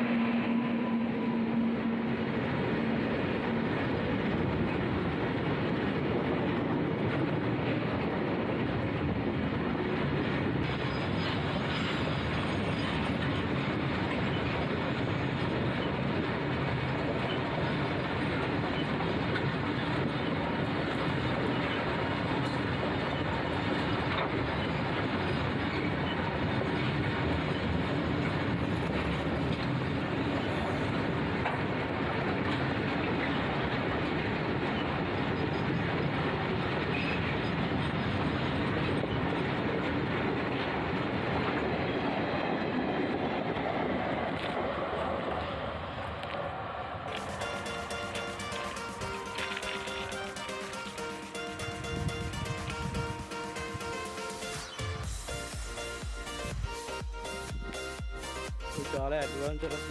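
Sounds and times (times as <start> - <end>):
train wagons rumbling: 0.0 - 59.9.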